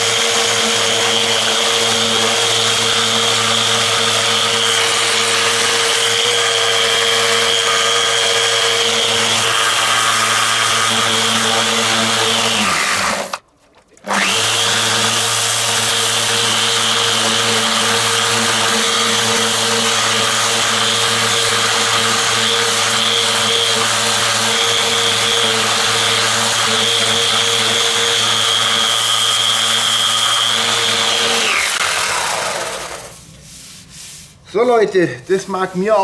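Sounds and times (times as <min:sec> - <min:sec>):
orbital sander grinding metal: 0:00.0 - 0:13.4, 0:14.1 - 0:33.2.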